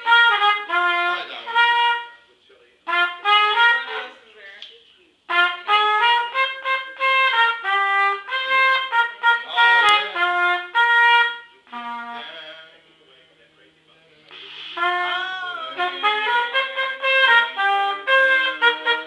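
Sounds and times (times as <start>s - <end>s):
trumpet playing: 0.0s - 4.2s, 5.3s - 12.8s, 14.6s - 19.0s.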